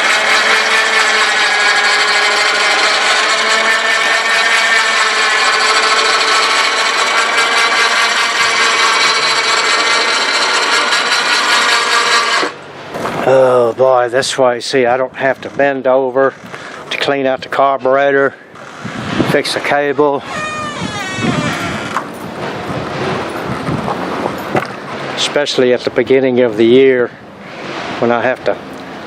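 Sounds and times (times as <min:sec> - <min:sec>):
lift motor whining hum: 0:00.0 - 0:14.6, 0:15.2 - 0:25.4.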